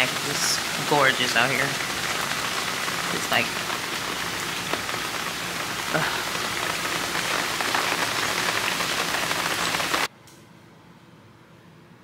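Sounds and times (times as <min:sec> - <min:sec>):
heavy rain splashing on water: 0:00.0 - 0:10.1.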